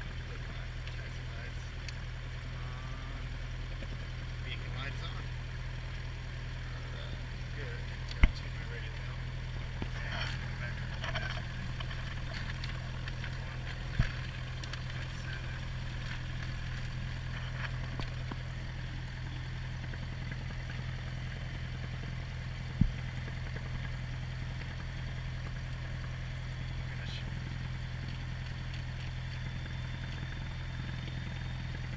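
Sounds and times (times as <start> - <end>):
aircraft engine idling: 0.0 - 31.9.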